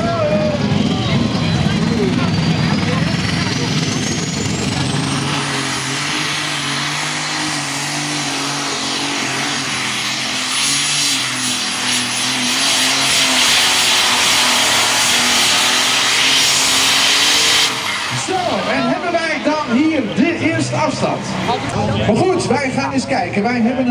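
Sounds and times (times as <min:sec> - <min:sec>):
tractor engine drone: 0:00.0 - 0:23.9.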